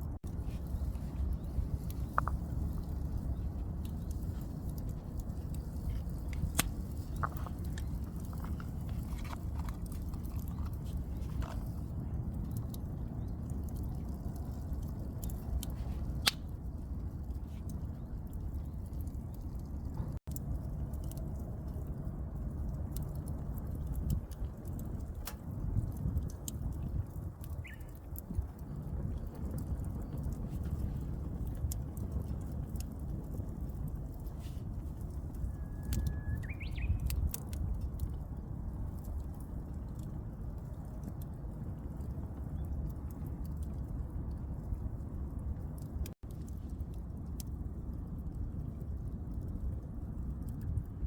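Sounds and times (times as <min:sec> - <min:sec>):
sharp clicks and crackles: 0:00.0 - 0:51.0.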